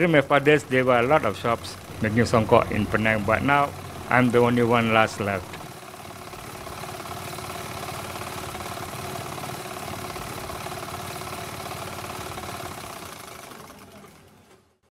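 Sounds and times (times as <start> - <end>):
motor running with fast pulse: 0.0 - 14.4.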